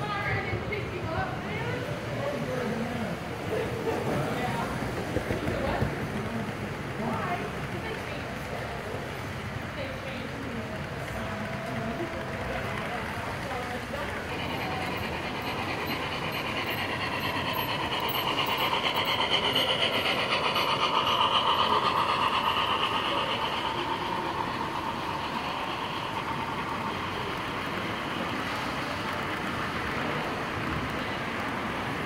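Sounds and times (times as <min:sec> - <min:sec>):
model train running on track: 0:00.0 - 0:32.0.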